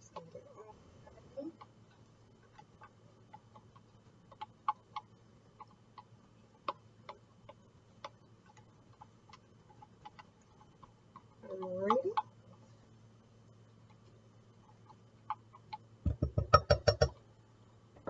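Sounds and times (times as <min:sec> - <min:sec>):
spatula clicking and tapping: 0:00.0 - 0:00.4, 0:01.0 - 0:17.2
low steady hum: 0:00.0 - 0:18.0.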